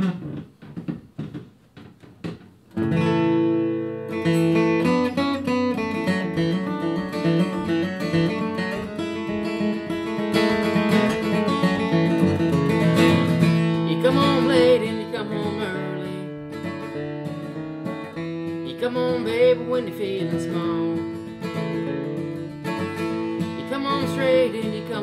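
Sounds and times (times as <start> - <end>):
acoustic guitar strumming and picking: 0.0 - 1.2, 1.8 - 25.0.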